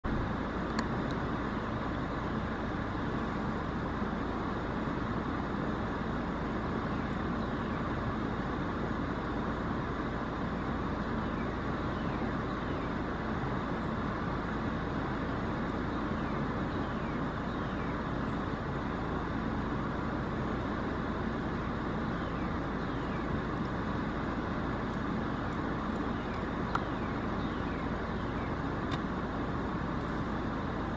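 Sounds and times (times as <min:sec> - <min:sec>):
steady background noise: 0:00.0 - 0:30.9.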